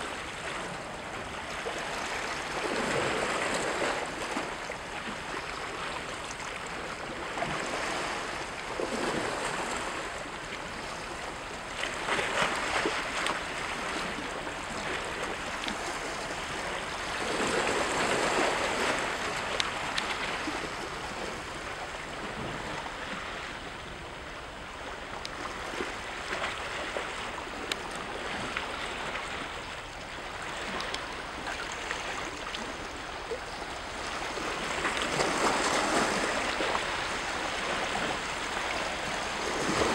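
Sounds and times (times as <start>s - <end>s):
waves splashing against rocks: 0.2s - 39.9s.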